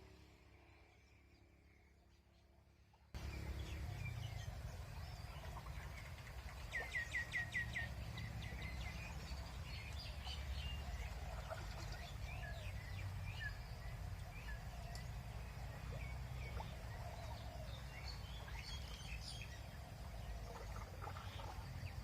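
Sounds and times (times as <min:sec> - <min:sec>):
birds calling and singing: 0:03.2 - 0:22.0.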